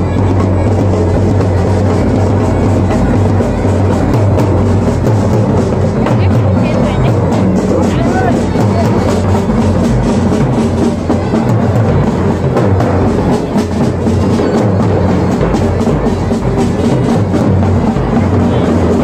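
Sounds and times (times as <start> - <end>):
bass drums beating: 0.0 - 19.0
side drums beating: 0.0 - 19.0.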